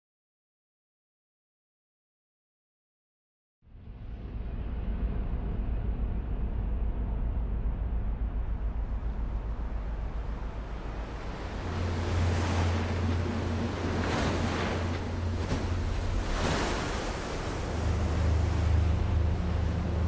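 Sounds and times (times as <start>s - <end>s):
low hum: 3.6s - 20.0s
low steady rumble: 3.6s - 20.0s.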